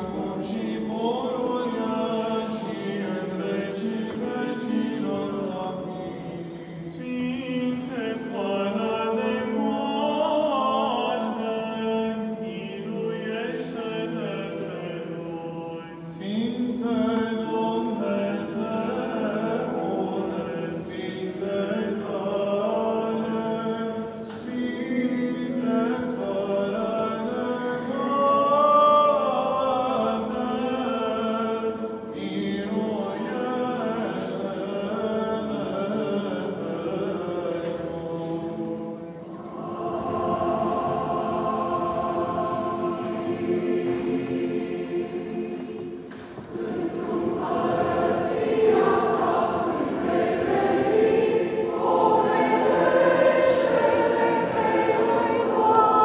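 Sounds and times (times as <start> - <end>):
cantors chanting: 0.0 - 56.0.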